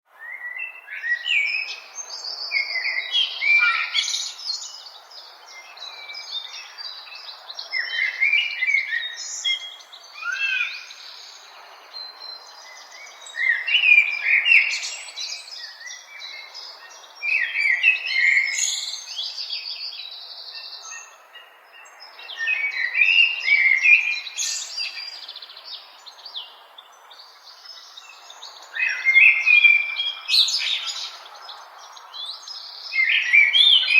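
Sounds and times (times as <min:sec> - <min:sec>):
birds chirping and singing: 0:00.2 - 0:33.9.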